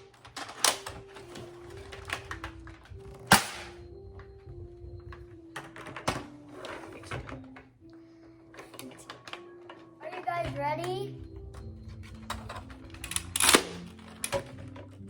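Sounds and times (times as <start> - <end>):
faint tune: 0.0 - 15.0.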